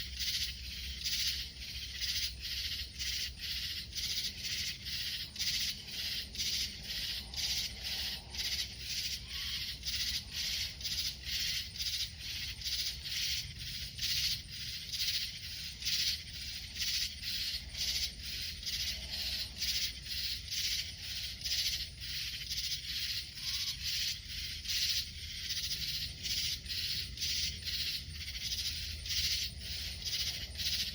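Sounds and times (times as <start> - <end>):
pulsing chorus of animal calls: 1.2 - 30.9.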